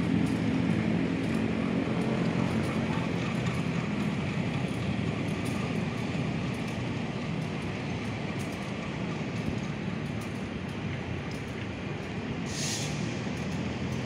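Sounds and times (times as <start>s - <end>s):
city noise: 0.0s - 14.0s
electric train rumbling on tracks: 0.0s - 14.0s.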